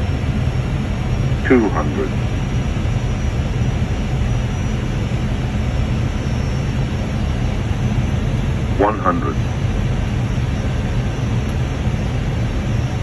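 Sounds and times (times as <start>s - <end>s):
airflow and engine rush: 0.0s - 13.0s.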